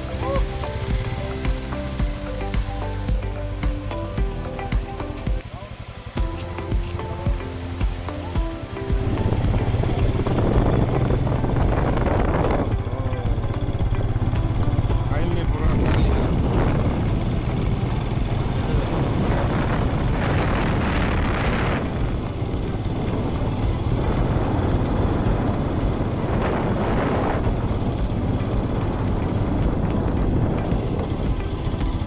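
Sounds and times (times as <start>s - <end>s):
motorcycle engine running: 0.0s - 32.0s
rushing noise: 0.0s - 32.0s.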